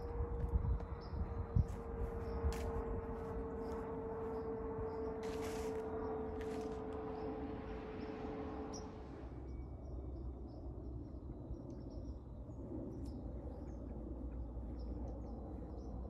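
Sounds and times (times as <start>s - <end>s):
distant jet airliner rumble: 0.0s - 16.0s.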